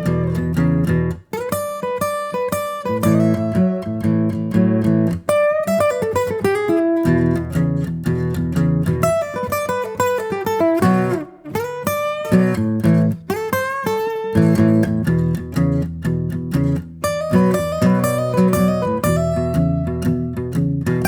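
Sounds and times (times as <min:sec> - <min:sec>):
plucked guitar music: 0:00.0 - 0:21.0.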